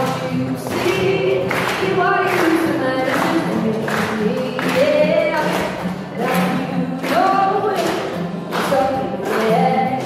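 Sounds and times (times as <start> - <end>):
acoustic guitar strumming: 0.0 - 10.0
woman singing: 0.0 - 10.0.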